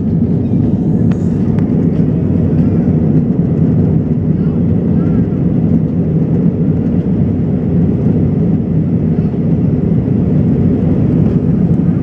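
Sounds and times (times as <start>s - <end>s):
jet cabin engine drone: 0.0s - 12.0s.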